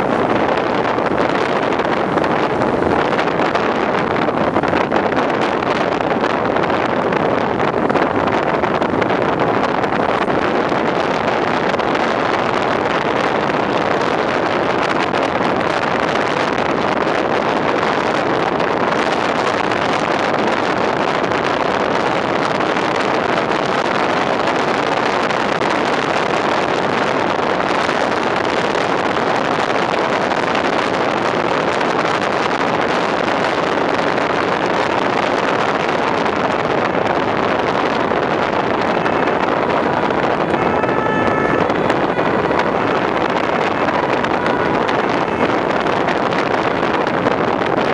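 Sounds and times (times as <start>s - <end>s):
road noise: 0.0s - 47.9s
truck engine: 0.0s - 47.9s
wind on microphone: 0.0s - 47.9s.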